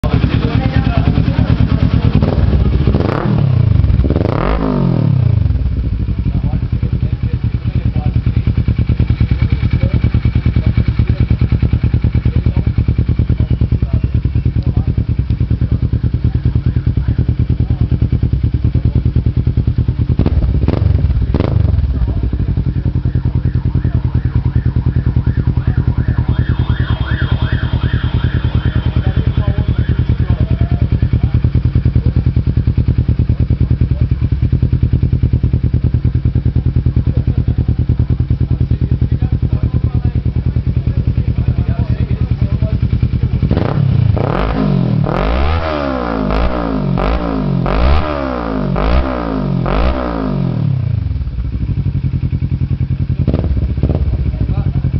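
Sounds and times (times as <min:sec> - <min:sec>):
motorcycle idling: 0:00.0 - 0:54.9.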